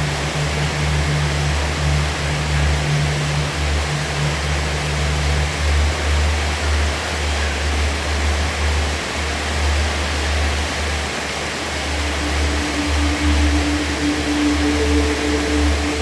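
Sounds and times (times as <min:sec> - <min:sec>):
heavy rainfall: 0:00.0 - 0:16.0
low hum-like tone: 0:00.0 - 0:16.0
low rumble: 0:00.0 - 0:16.0.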